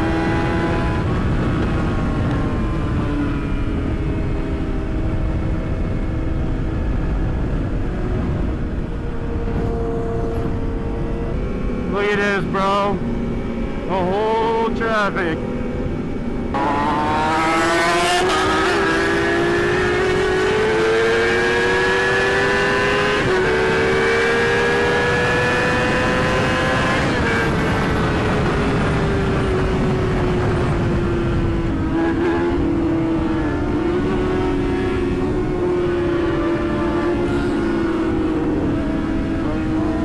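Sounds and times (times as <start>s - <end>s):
motorcycle engine revving: 0.0s - 12.3s, 15.4s - 40.0s
wind rush: 0.0s - 40.0s.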